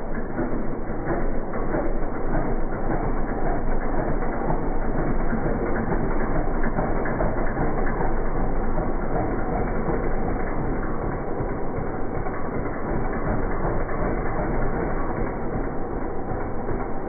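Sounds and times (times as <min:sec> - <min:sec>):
motorcycle engine clattering: 0:00.0 - 0:17.0.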